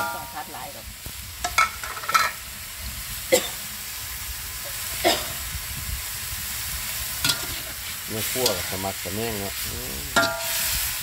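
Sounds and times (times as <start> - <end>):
vegetables sizzling in wok: 0.0 - 11.0.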